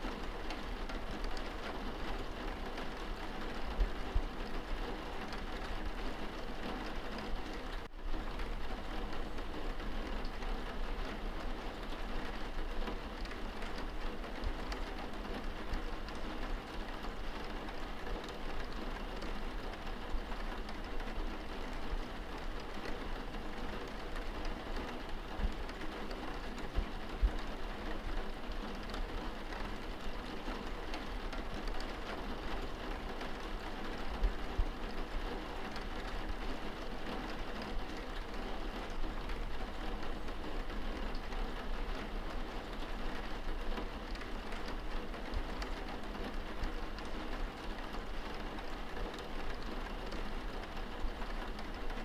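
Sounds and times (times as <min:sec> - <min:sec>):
rain on window glass: 0:00.0 - 0:52.0.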